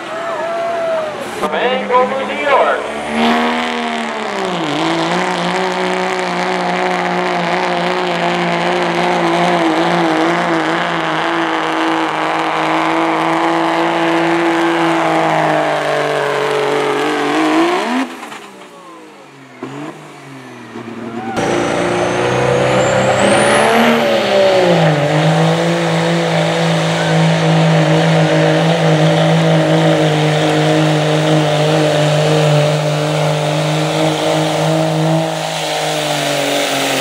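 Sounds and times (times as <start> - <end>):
diesel truck engine under load: 0.0 - 37.0.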